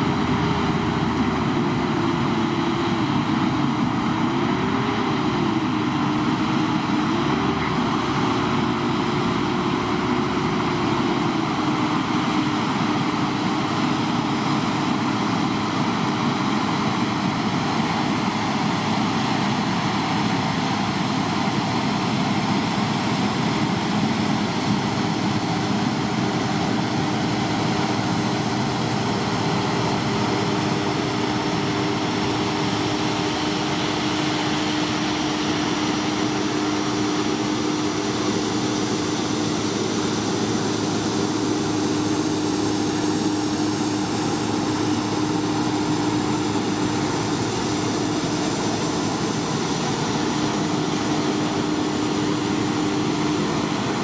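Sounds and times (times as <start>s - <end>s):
farm machinery drone: 0.0s - 54.0s.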